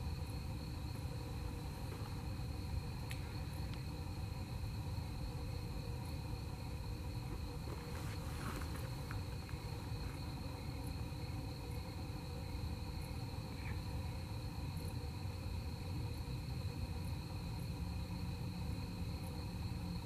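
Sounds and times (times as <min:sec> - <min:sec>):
crickets trilling: 0:00.0 - 0:20.0
low steady rumble: 0:00.0 - 0:20.0.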